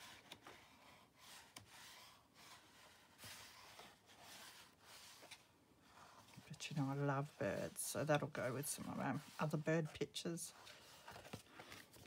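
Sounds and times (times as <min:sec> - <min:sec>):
paper pages turning: 0:00.0 - 0:12.0.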